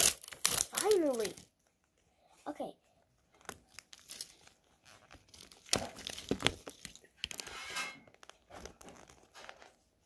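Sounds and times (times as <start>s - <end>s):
plastic wrap crinkling and tearing: 0.0s - 1.7s, 3.3s - 10.0s
tape being peeled: 0.0s - 1.8s, 3.3s - 10.0s.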